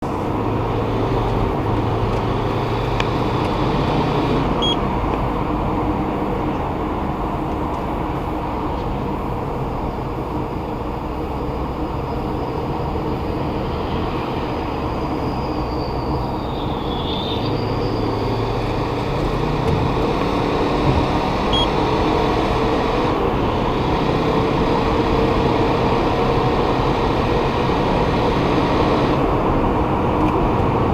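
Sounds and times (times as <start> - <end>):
high-pitched turbo whine: 0.0 - 30.1
engine and road rumble: 0.0 - 30.9.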